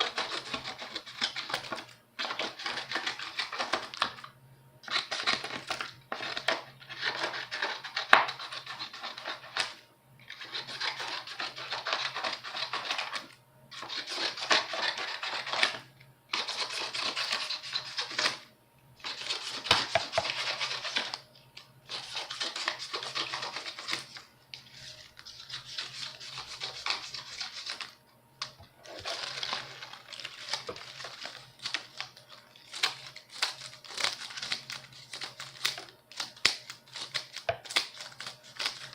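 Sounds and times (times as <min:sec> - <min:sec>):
scissors cutting paper: 0:00.0 - 0:18.4, 0:19.0 - 0:38.9.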